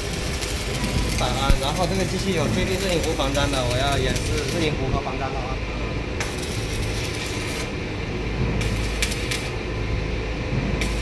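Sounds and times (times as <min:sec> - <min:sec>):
welding arc crackling and hissing: 0:00.0 - 0:11.0.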